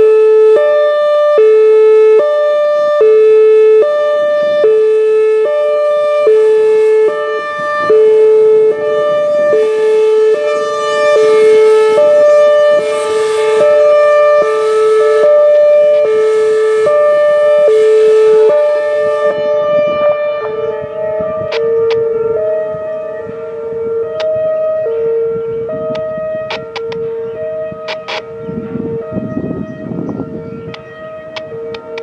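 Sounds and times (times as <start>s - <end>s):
loud two-tone warning siren: 0.0s - 32.0s.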